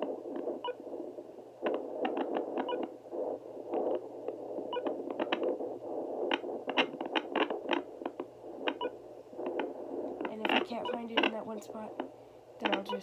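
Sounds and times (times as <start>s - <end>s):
doppler speaker static: 0.0s - 13.0s
scratchy crackles of probe: 0.0s - 13.0s.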